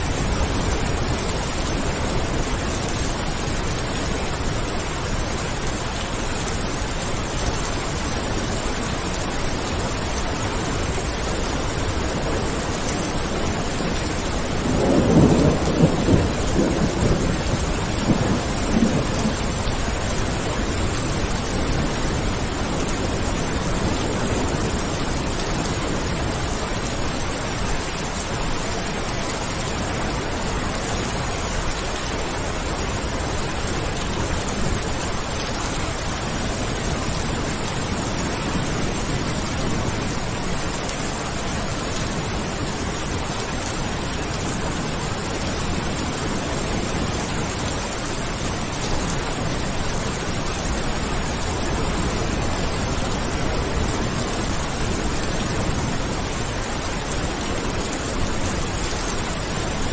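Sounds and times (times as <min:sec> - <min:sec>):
heavy rain: 0:00.0 - 0:59.9
rolling thunder rumble: 0:00.0 - 0:59.9.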